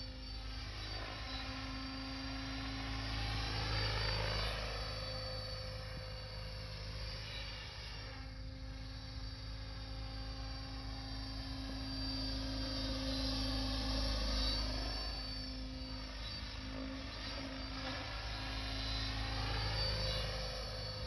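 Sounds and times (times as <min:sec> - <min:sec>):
rc helicopter rotor and motor whine: 0:00.0 - 0:21.0.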